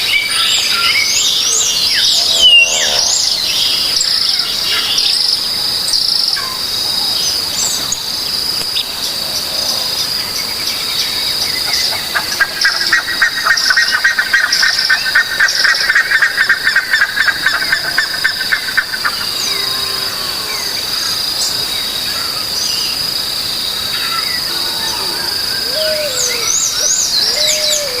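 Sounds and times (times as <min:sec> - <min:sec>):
high-pitched insect drone: 0:00.4 - 0:28.0.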